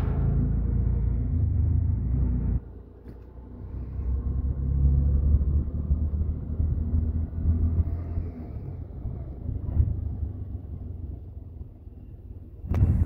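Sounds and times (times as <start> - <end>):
auto-rickshaw engine rumble: 0.0 - 13.0.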